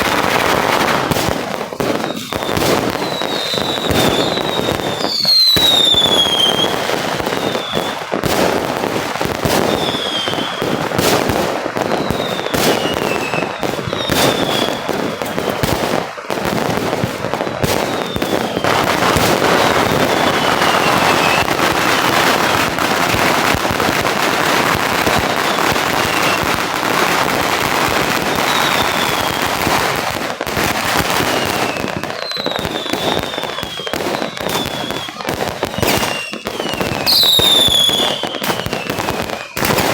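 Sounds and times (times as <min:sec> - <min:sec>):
falling firework whistle: 0:00.0 - 0:39.9
firework bangs: 0:00.0 - 0:39.9
firework crackling: 0:00.0 - 0:39.9.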